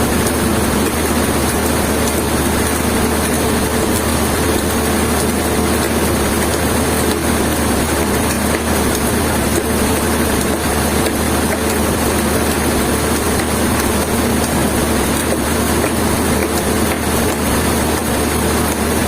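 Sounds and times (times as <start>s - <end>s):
heavy machinery engine drone: 0.0s - 19.0s.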